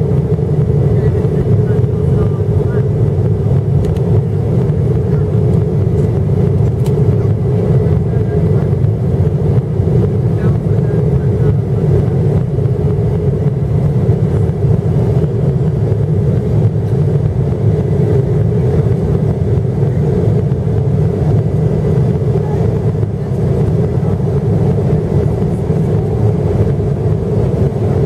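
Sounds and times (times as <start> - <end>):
jet airliner cabin noise: 0.0 - 28.0.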